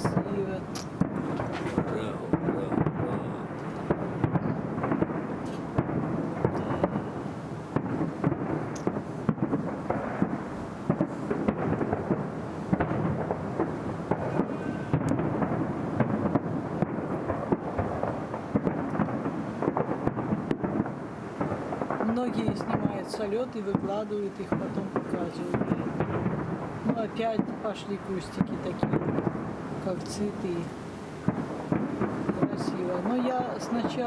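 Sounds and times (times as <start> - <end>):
sharp cracks and bangs: 0.0 - 30.6, 31.2 - 34.0
fireworks bursting: 0.0 - 34.0.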